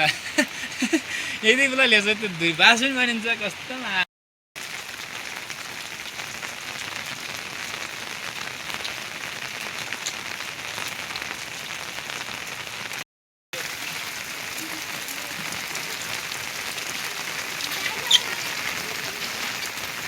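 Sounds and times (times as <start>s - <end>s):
heavy rain falling: 0.0s - 4.0s, 4.6s - 13.0s, 13.6s - 20.0s.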